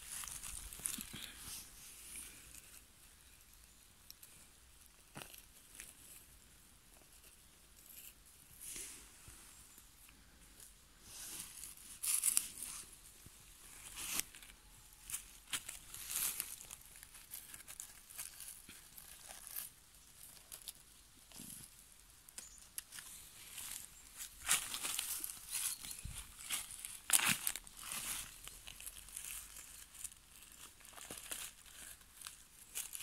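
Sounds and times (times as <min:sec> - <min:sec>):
dry leaves and needles crackling: 0:00.0 - 0:33.0.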